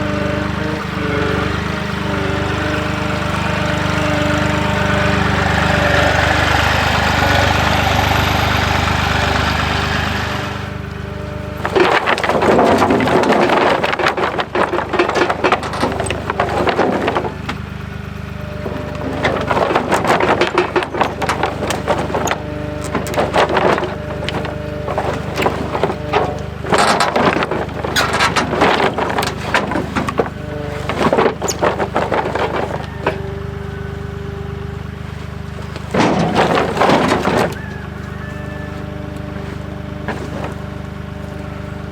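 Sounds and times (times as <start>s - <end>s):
debris rattling and scraping: 0.0s - 41.9s
diesel engine running: 0.0s - 41.9s.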